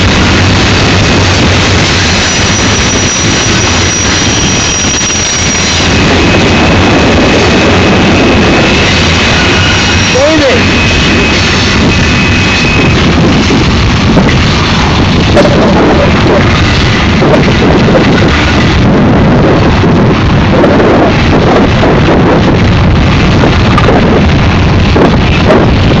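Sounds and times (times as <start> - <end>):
freight train wheels rumbling: 0.0 - 26.0
train clicks and clanks: 0.0 - 26.0.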